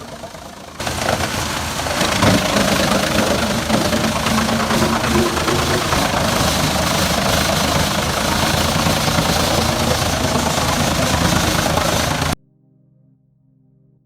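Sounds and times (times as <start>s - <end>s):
tractor engine running: 0.0s - 12.4s
wood chipper chipping: 0.0s - 12.4s.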